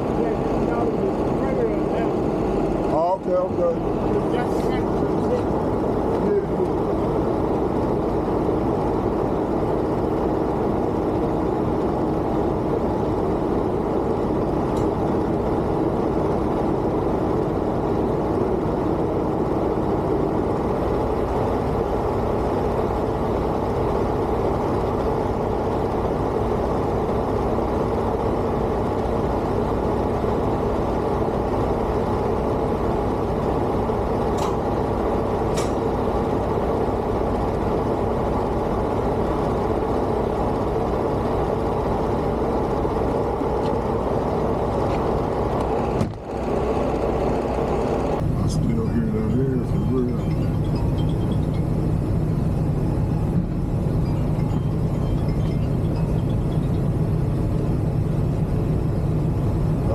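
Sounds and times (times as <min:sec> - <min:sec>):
truck engine droning: 0:00.0 - 0:59.9.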